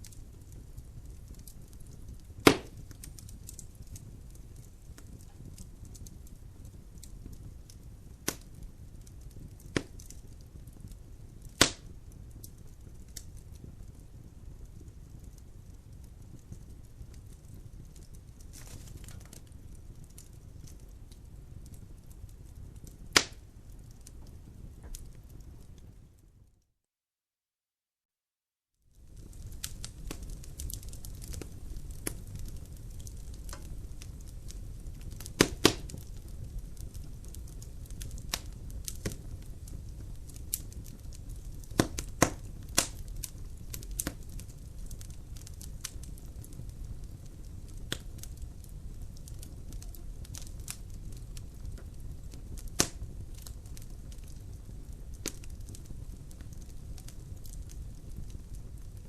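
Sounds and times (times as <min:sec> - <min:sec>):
fire burning in fireplace: 0:00.0 - 0:26.6, 0:28.8 - 0:59.0
fire crackling and popping: 0:00.0 - 0:26.6, 0:28.8 - 0:59.0.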